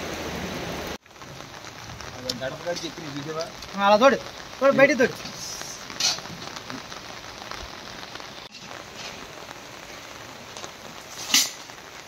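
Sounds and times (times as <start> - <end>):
rain pattering on water: 0.0 - 12.0.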